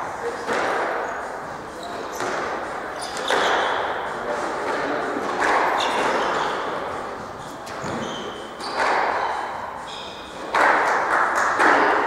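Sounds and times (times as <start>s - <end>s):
shoes squeaking on floor: 0.3s - 12.0s.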